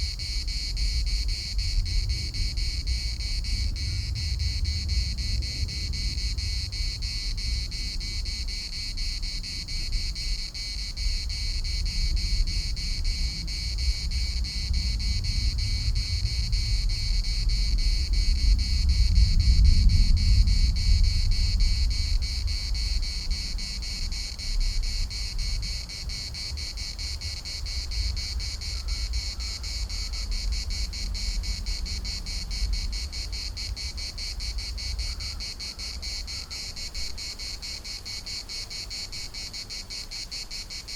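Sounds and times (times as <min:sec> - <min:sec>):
wind buffeting microphone: 0:00.0 - 0:38.2
cicadas buzzing: 0:00.0 - 0:40.9.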